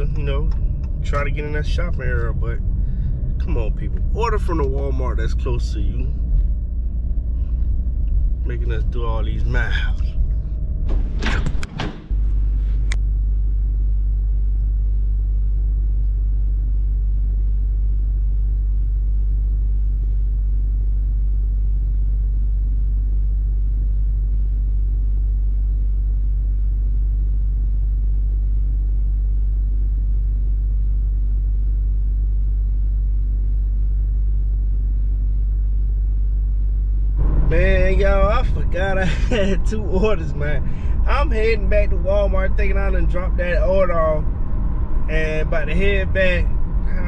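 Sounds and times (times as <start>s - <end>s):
car engine idling: 0.0s - 20.0s, 29.1s - 47.0s.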